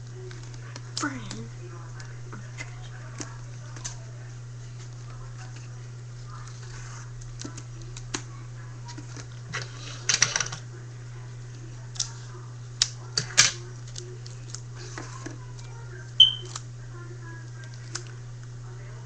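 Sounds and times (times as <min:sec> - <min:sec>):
paper and tape clicks and crinkles: 0:00.0 - 0:10.7, 0:11.5 - 0:18.5
steady low hum: 0:00.0 - 0:19.0.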